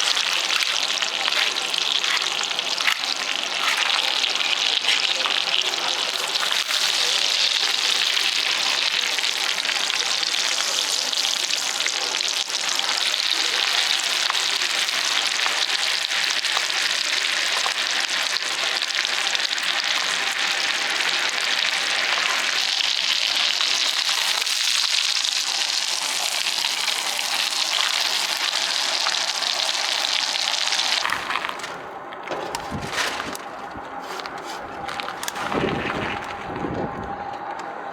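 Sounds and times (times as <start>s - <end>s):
steak sizzling over fire: 0.0s - 31.6s.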